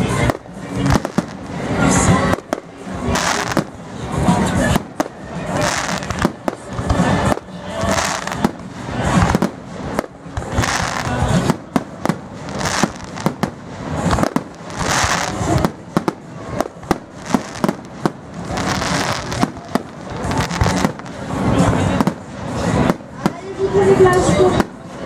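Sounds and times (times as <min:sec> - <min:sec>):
fireworks bangs: 0:00.0 - 0:25.0
fireworks crackle and hiss: 0:00.0 - 0:25.0.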